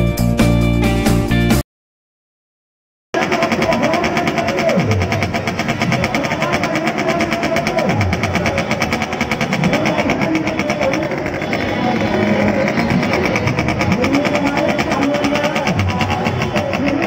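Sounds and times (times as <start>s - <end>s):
motorcycle engine idling: 3.2s - 17.0s.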